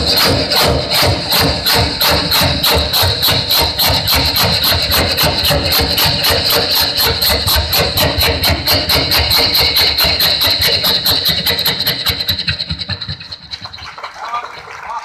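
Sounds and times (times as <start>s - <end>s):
mouth-made train chuffing: 0.0s - 15.0s.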